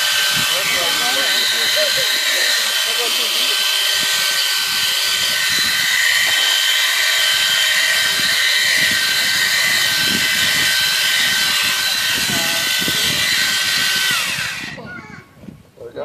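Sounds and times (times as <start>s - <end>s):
electric sheep shears whining: 0.0s - 15.2s.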